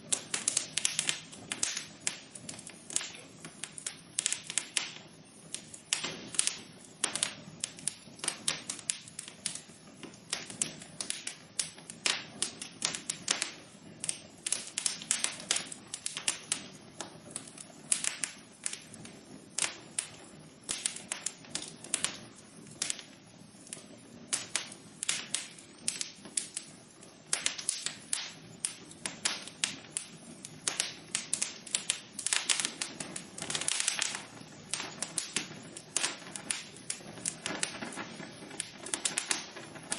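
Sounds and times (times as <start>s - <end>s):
hiss of burning: 0.0s - 39.9s
wood fire crackling: 0.0s - 39.9s.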